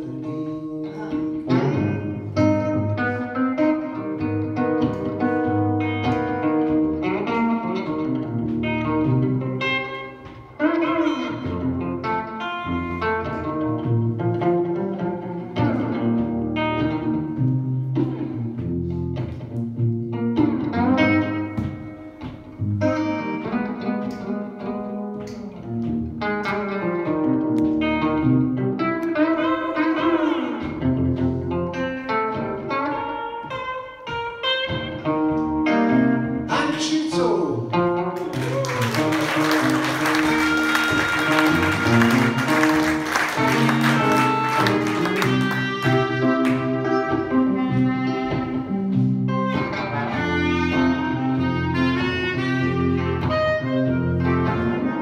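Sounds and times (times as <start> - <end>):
slide electric guitar melody: 0.0 - 55.0.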